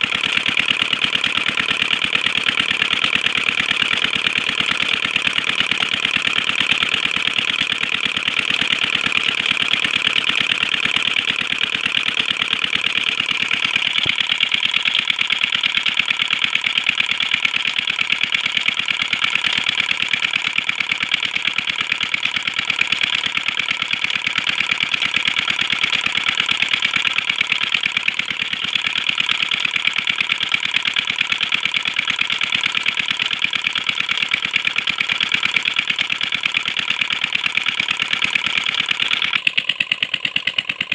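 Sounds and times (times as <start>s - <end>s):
diesel engine knocking steadily: 0.0s - 40.9s.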